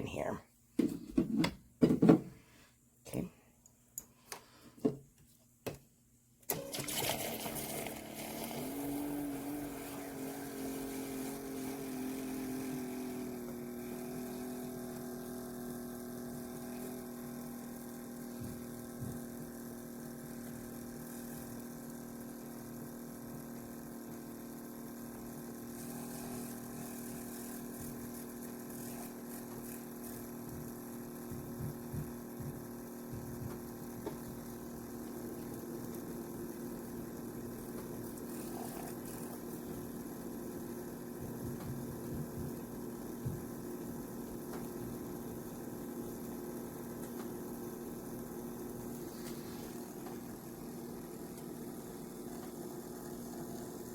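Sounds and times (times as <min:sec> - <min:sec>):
milk frother motor hum: 0:06.5 - 0:53.9.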